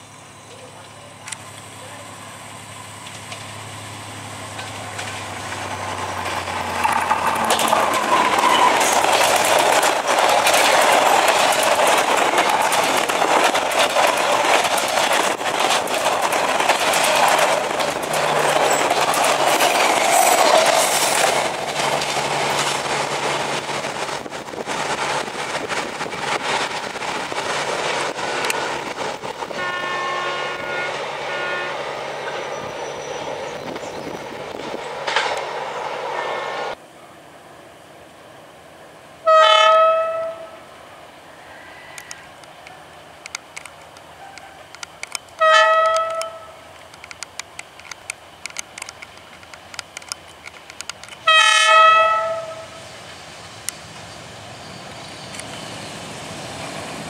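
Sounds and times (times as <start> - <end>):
diesel locomotive engine hum: 0.0 - 57.0
train wheels clicking over rail joints: 2.6 - 36.2, 42.0 - 57.0.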